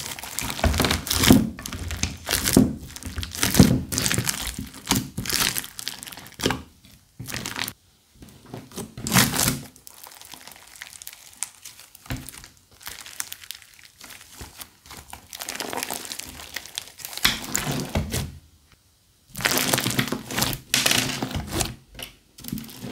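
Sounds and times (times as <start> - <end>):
crunchy slime crackling: 0.0 - 7.8, 8.6 - 18.2, 19.3 - 21.7.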